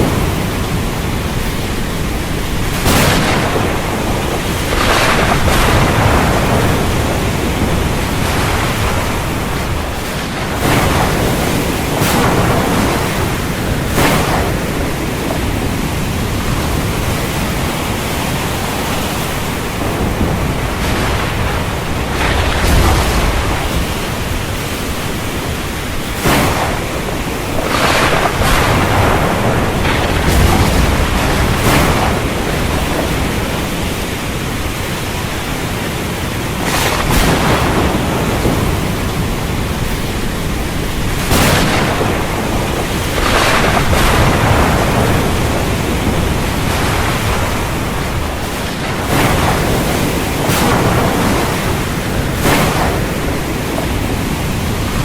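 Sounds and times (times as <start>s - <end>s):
rough waves breaking: 0.0s - 55.0s
wind: 0.0s - 55.0s.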